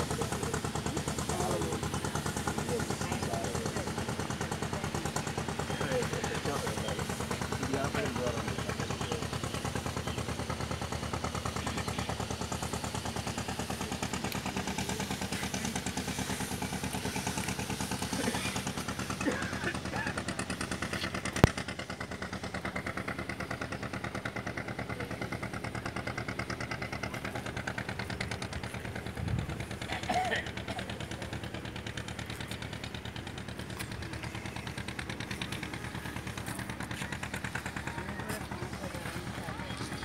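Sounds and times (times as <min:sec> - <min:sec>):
boat engine thumping: 0:00.0 - 0:40.0.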